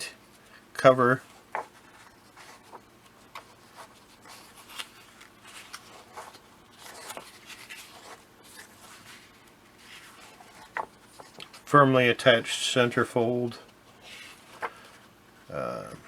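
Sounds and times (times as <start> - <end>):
paper pages rustling: 0.3 - 11.7, 13.6 - 15.5.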